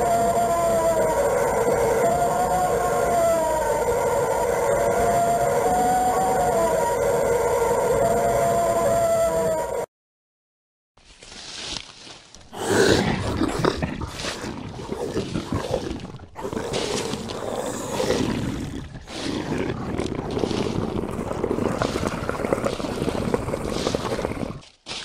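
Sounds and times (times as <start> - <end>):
long rough roaring calls: 0.0 - 9.9, 12.5 - 24.6.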